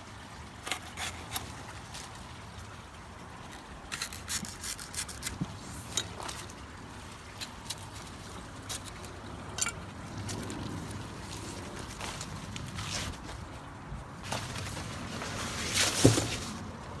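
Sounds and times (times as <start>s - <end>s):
leaves rustling: 0.6s - 17.0s.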